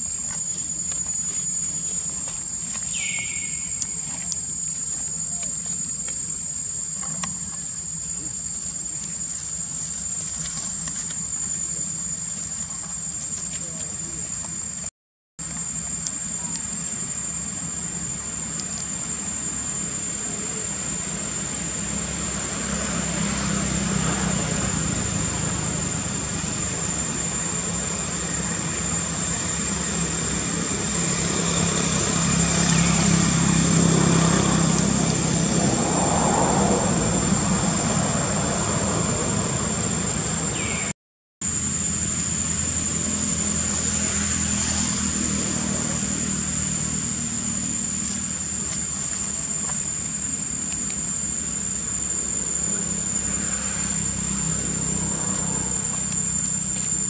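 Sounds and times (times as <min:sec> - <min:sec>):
high-pitched whine: 0:00.0 - 0:12.8, 0:13.5 - 0:57.0.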